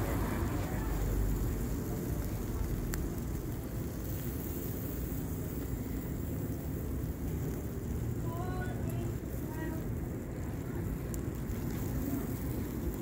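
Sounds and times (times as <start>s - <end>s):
street background rumble: 0.0s - 13.0s.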